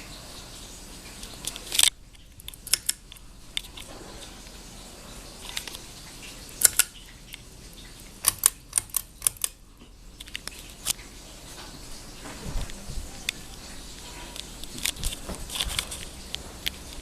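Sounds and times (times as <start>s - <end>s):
steady low background noise: 0.0s - 17.0s.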